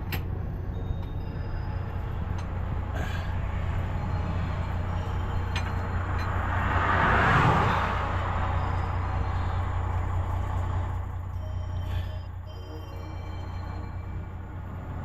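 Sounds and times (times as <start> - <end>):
passing vehicle: 0.0 - 15.0
truck engine idling: 0.0 - 15.0.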